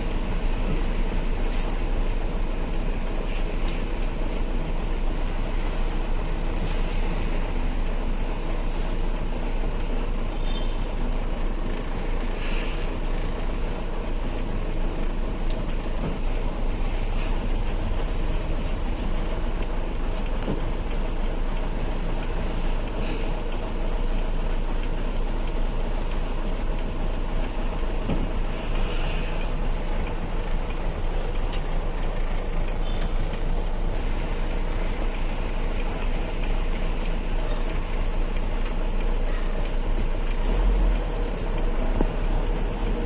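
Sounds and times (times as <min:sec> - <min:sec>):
regular light ticks: 0:00.0 - 0:43.0
truck engine and road noise: 0:00.0 - 0:43.0.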